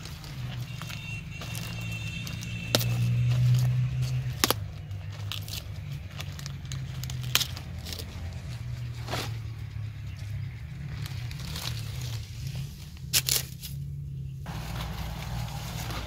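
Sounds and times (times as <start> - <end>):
leaves rustling and crackling: 0.0 - 9.7, 10.3 - 13.9, 14.5 - 16.0.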